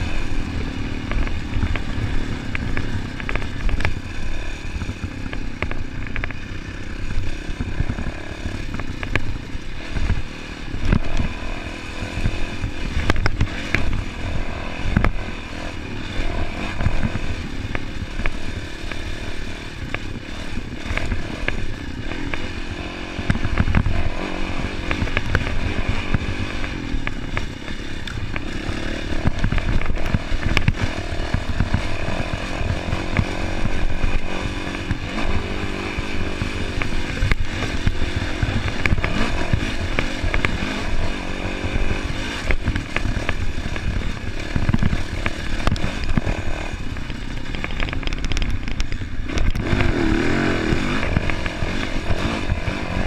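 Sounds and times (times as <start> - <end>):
dirt bike engine revving: 0.0 - 53.0
knocks and rattles over bumps: 0.0 - 53.0.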